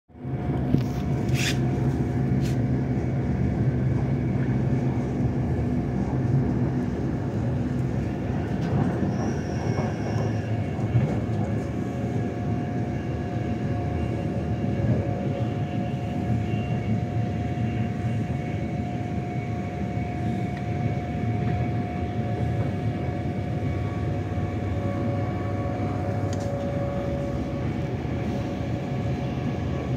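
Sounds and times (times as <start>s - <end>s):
rumble of train wheels on track: 0.1s - 29.9s
constant hum: 0.2s - 29.9s.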